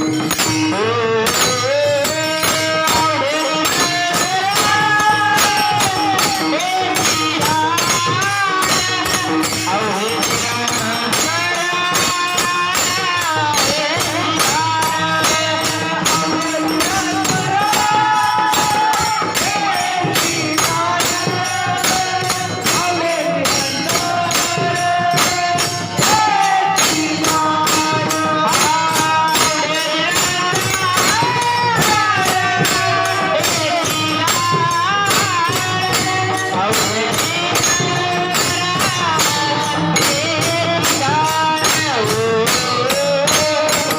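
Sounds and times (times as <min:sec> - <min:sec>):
jingling metallic percussion: 0:00.0 - 0:43.9.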